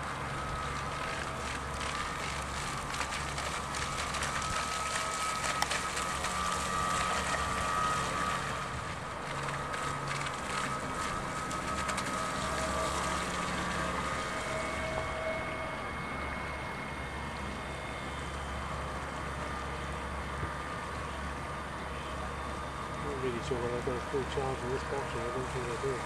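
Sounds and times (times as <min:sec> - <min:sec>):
model boat electric motor whine: 0:00.0 - 0:26.0.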